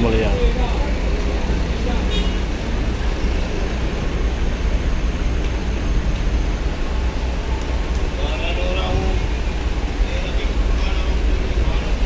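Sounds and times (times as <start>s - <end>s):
diesel trucks rumbling: 0.0s - 12.0s.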